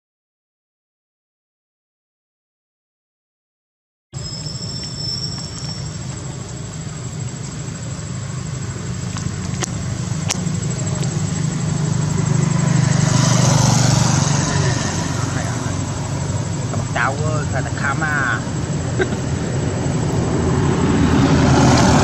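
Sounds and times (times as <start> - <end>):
vehicle engine running: 4.3 - 22.0.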